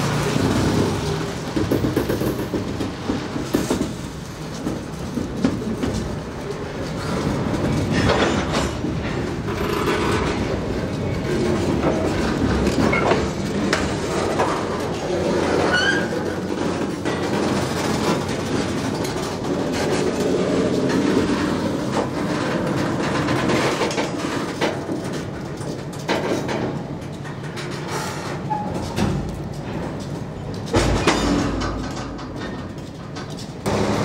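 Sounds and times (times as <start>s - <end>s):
diesel locomotive engine running: 0.0s - 30.8s, 31.6s - 34.0s
train wheels clattering on rails: 0.0s - 34.0s.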